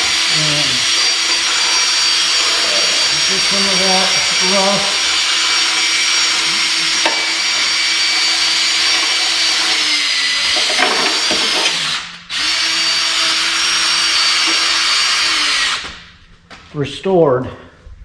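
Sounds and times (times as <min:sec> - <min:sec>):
power tool motor whine: 0:00.0 - 0:16.1.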